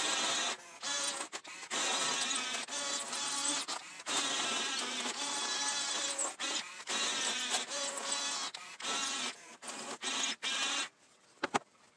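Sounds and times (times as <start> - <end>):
toy bulldozer motors whirring: 0.0 - 11.0.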